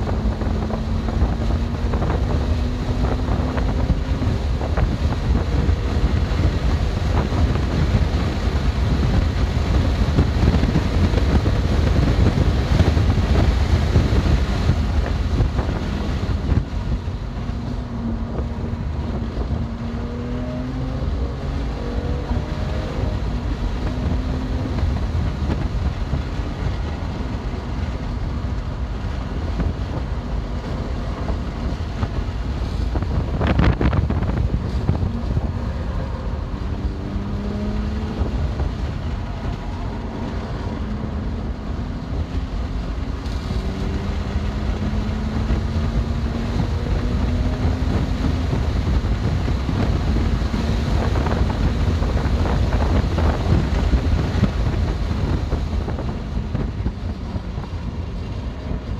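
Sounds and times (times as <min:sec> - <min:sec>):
car engine accelerating: 0:00.0 - 0:58.9
road rumble: 0:00.0 - 0:58.9
wind noise: 0:00.0 - 0:58.9.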